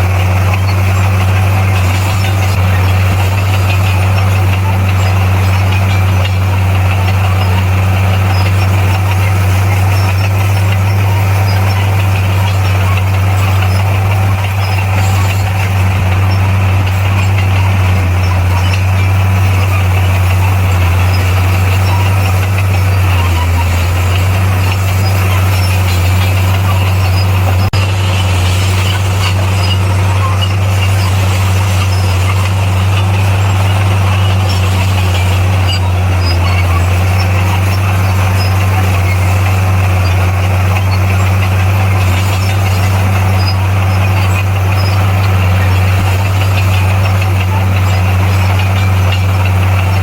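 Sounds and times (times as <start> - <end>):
bulldozer diesel engine drone: 0.0 - 50.0.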